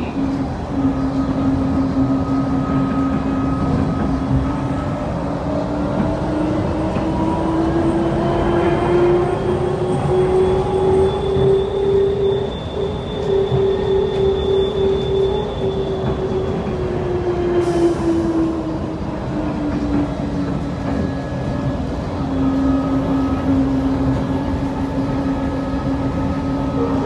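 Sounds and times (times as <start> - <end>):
rumble of train wheels: 0.0 - 27.0.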